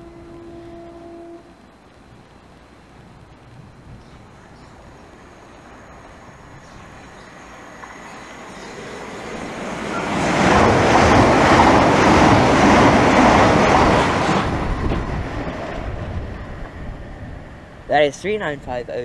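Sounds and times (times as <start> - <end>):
electric train passing rushing: 0.0 - 19.0.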